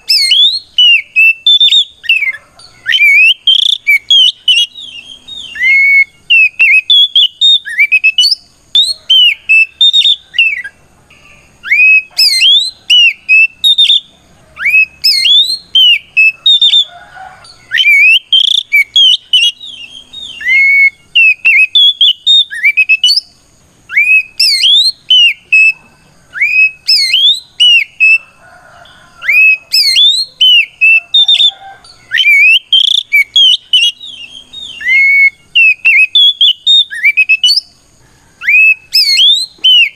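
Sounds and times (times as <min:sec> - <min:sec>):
bird singing whistled phrases: 0:00.0 - 0:16.9, 0:17.5 - 0:28.2, 0:29.2 - 0:37.8, 0:38.4 - 0:39.9.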